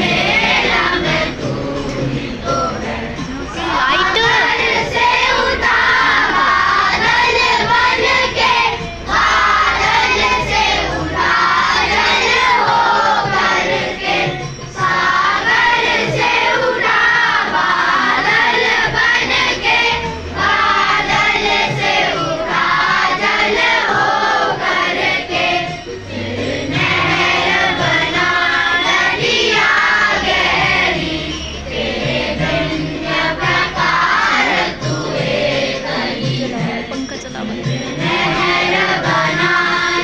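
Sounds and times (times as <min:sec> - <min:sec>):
children singing in unison: 0:00.0 - 0:40.0.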